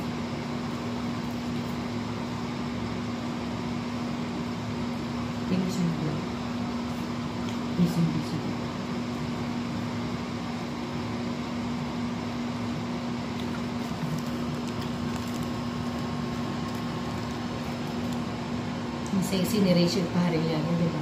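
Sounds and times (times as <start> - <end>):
constant low hum: 0.0 - 21.0.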